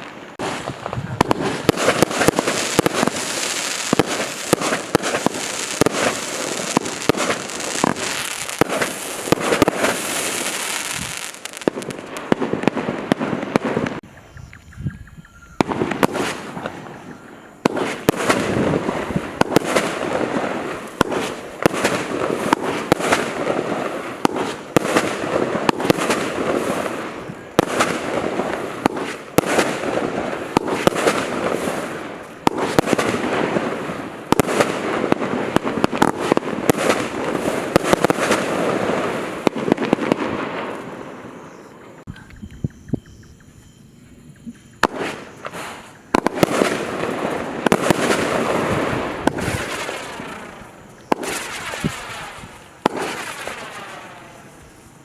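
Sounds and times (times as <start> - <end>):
firework barrage firing: 0.0 - 14.0, 15.6 - 42.0, 44.8 - 54.6.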